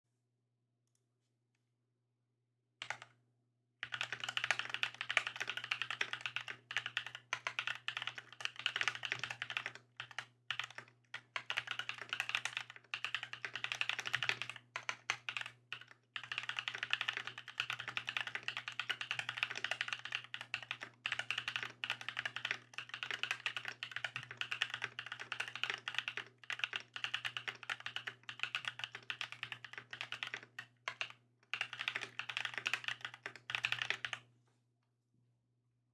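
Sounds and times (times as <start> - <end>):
mechanical keyboard typing: 2.8 - 3.1, 3.8 - 34.2.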